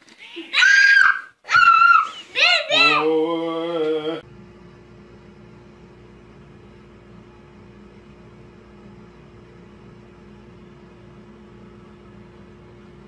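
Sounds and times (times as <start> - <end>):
steady machine hum: 2.4 - 13.0.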